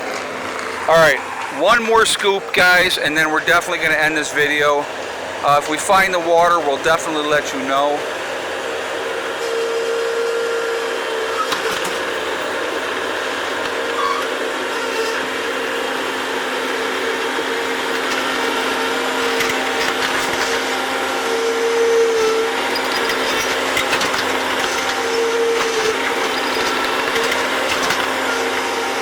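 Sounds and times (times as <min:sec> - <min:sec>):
loader engine whining: 0:00.0 - 0:29.0.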